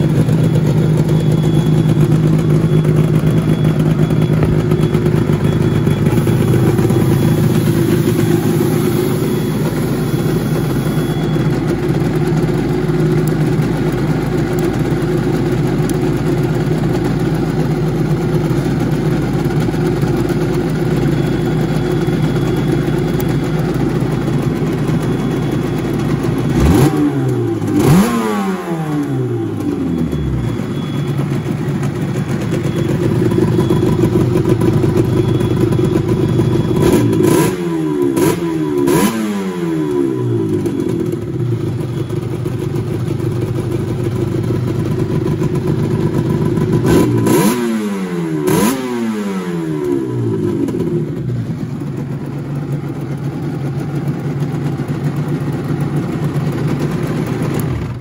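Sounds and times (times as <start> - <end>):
engine throttle blips: 0.0 - 58.0
two-stroke engine idling: 0.0 - 58.0.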